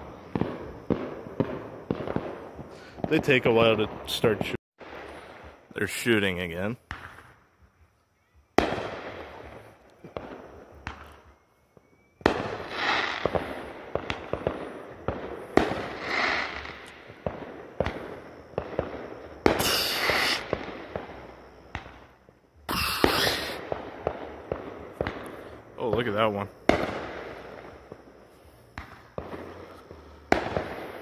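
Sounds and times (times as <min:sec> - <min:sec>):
firework bangs: 0:00.0 - 0:07.5, 0:08.6 - 0:31.0
firework crackling pops: 0:00.0 - 0:07.6, 0:08.6 - 0:31.0.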